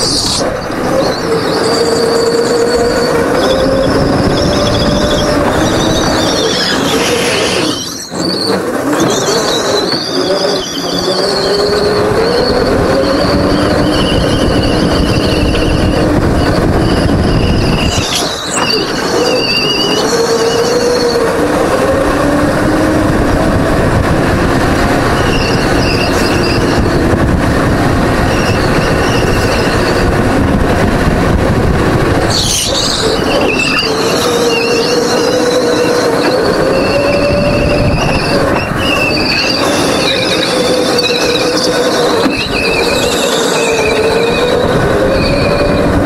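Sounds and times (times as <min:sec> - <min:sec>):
tyre squeal: 0:00.0 - 0:22.4, 0:25.0 - 0:27.2, 0:28.2 - 0:30.1, 0:32.3 - 0:46.0
go-kart engine running hard: 0:00.0 - 0:46.0.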